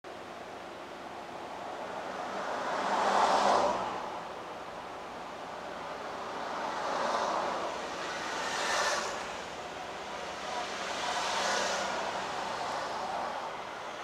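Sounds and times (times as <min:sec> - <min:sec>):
vehicles passing by: 0:00.1 - 0:14.0.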